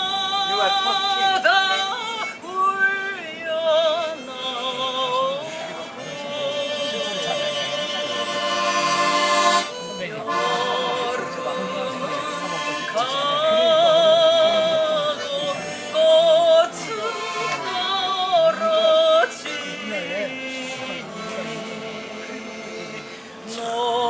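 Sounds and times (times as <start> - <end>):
woman singing with vibrato: 0.0 - 8.8, 9.5 - 24.0
instrumental accompaniment: 4.0 - 24.0.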